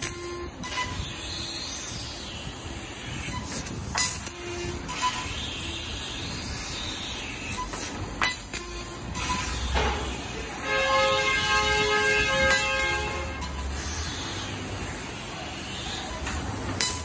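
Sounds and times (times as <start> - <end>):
laser cutter hiss: 0.0 - 17.0
steady multi-pitched whine: 0.0 - 17.0.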